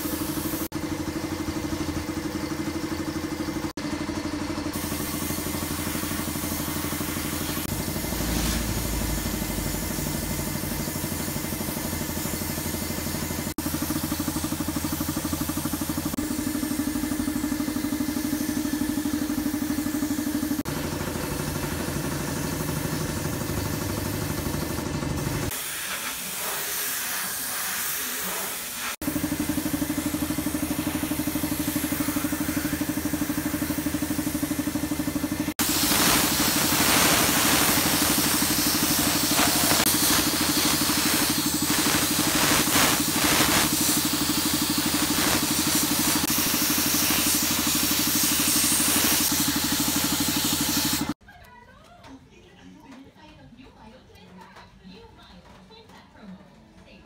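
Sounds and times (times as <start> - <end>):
paint spray gun hissing: 0.0 - 3.7, 4.4 - 51.2
air compressor motor hum: 0.0 - 51.2.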